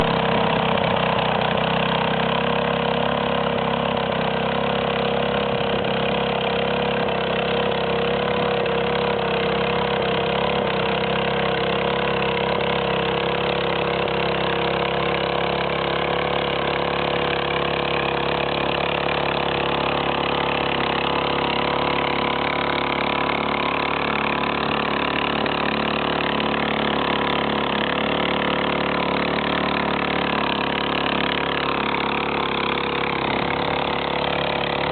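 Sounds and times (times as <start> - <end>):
farm machine engine running: 0.0 - 34.9.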